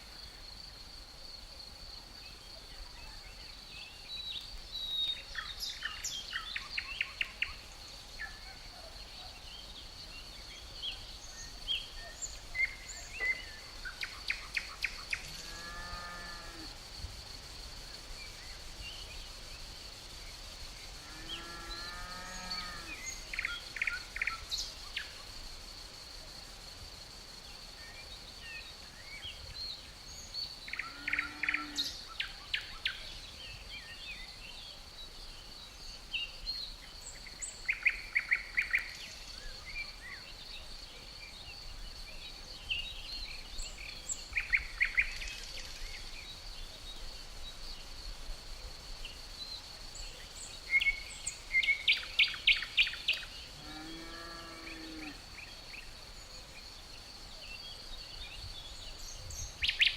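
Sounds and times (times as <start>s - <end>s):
crickets trilling: 0.0s - 59.9s
songbirds singing: 2.0s - 26.2s, 26.9s - 59.9s.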